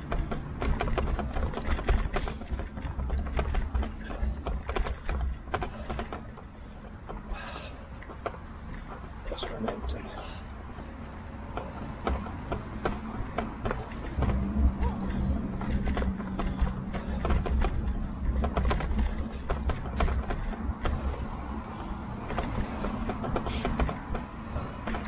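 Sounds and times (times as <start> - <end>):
bike rattling and knocking: 0.0 - 25.0
rumble of tyres and wind: 0.0 - 25.0.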